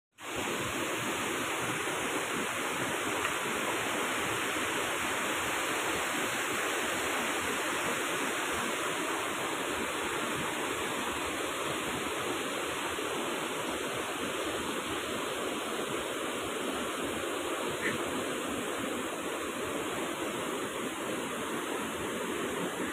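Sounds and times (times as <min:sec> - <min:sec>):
fast-flowing river rushing: 0:00.2 - 0:22.9.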